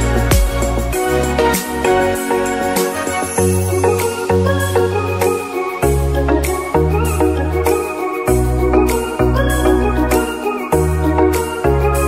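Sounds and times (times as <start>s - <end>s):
keyboard music: 0.0s - 12.0s.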